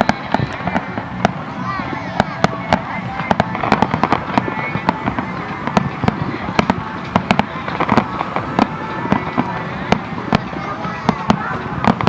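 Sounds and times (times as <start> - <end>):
continuous rumble: 0.0 - 12.0
fireworks bangs and cracks: 0.0 - 12.0.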